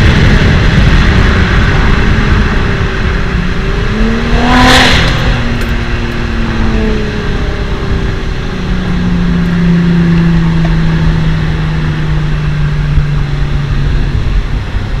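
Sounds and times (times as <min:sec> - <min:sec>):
loud diesel engine drone: 0:00.0 - 0:15.0.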